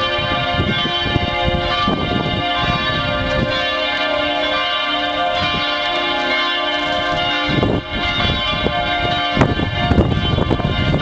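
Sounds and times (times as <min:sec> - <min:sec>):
church bells ringing in a peal: 0:00.0 - 0:11.0.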